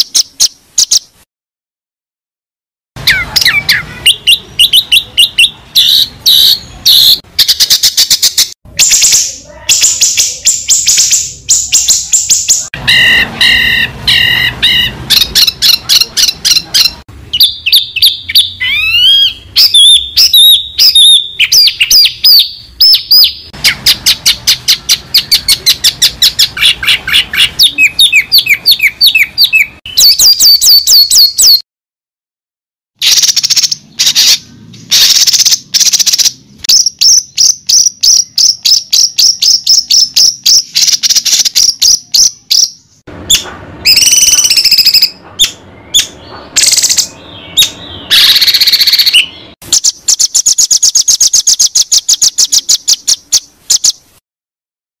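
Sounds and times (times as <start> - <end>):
songbird song with chirps and whistles: 0.0 - 1.2, 3.0 - 31.6, 33.0 - 54.2.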